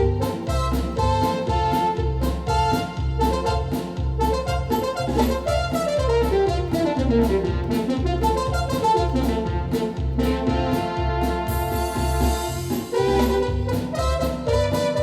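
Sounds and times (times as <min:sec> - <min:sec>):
jazzy synthesizer tune: 0:00.0 - 0:15.0
repeating bass line: 0:00.0 - 0:15.0
steady drum beat: 0:00.0 - 0:15.0.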